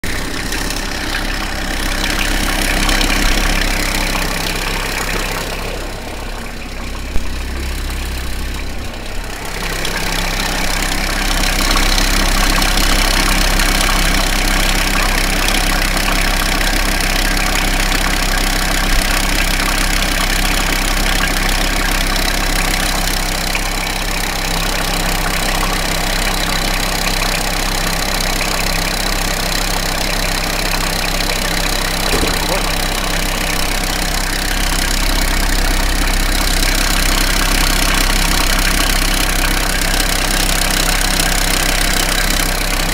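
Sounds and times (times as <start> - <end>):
diesel engine idling: 0.0 - 42.9
odd engine noise: 0.0 - 42.9.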